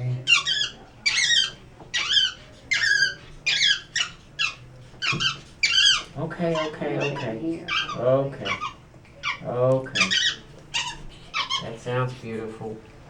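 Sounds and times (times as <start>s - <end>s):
monkey squeaky calls: 0.3s - 9.4s, 10.0s - 11.6s.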